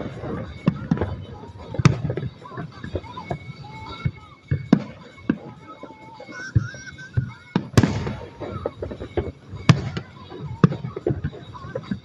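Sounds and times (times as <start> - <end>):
fireworks bangs: 0.0 - 12.0
music playing: 0.0 - 12.0.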